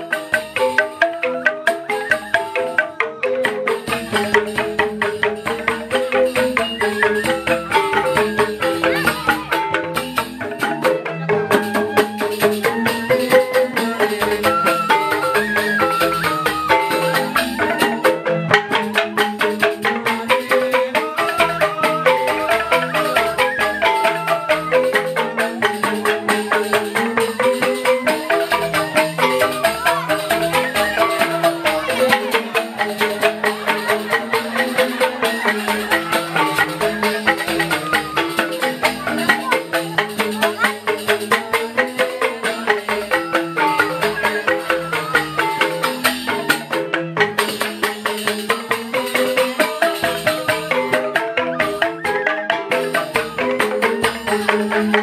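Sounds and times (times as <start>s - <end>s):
bamboo xylophones playing: 0.0s - 55.0s
drums: 0.0s - 55.0s.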